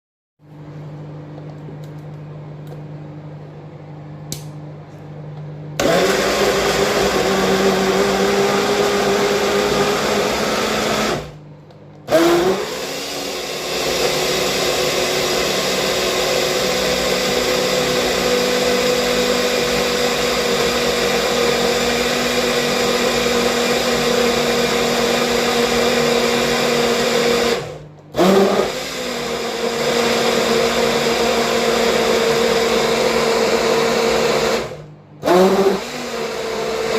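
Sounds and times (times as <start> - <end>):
blender motor running: 5.8 - 11.4, 12.1 - 36.9.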